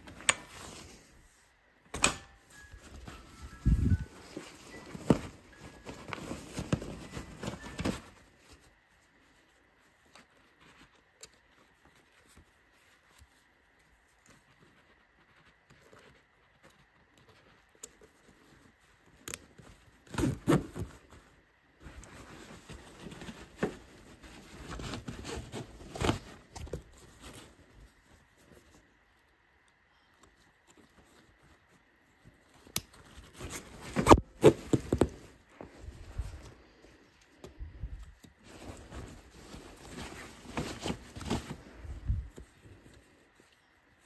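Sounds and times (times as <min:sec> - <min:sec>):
fabric rustling: 0:02.4 - 0:29.3, 0:30.6 - 0:44.0.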